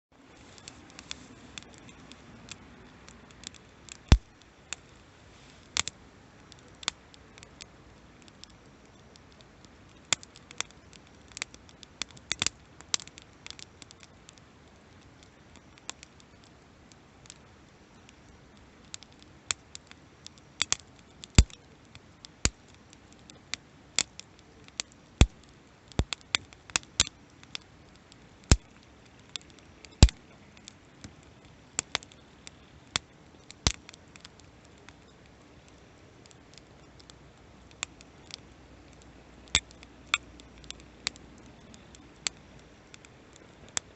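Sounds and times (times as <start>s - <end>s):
campfire crackling and popping: 0.2s - 43.9s
hiss of burning: 0.2s - 43.9s.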